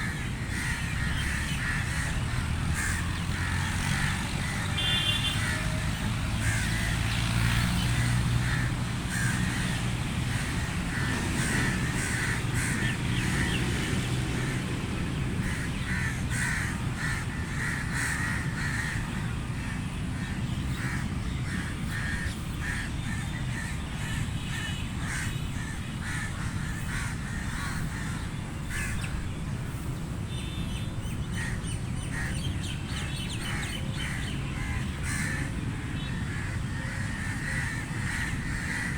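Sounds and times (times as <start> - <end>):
crows cawing: 0.0 - 14.6, 15.4 - 29.2, 31.3 - 38.9.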